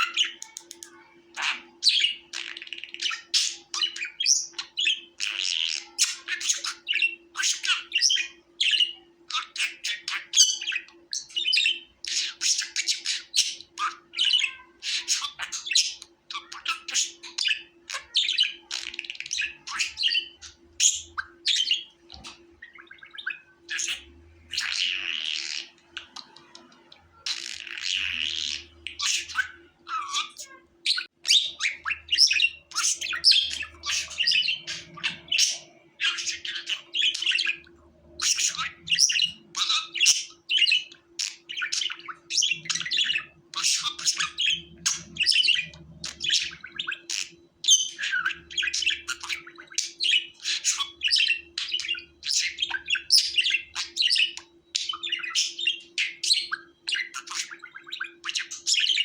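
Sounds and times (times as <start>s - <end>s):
budgerigar chattering and warbling: 0.0s - 59.0s.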